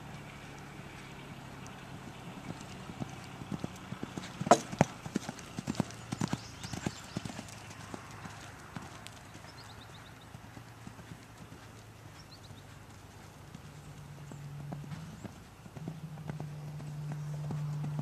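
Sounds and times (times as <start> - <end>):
pony hoofbeats cantering on sand: 0.0 - 18.0.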